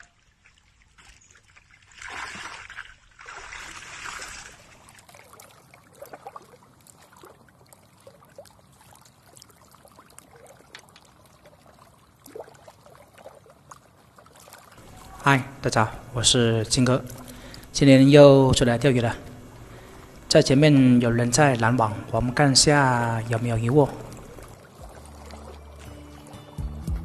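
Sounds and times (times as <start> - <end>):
small water splashes: 0.0 - 26.6
water rushing: 0.0 - 26.7
water trickling and lapping: 0.0 - 27.0.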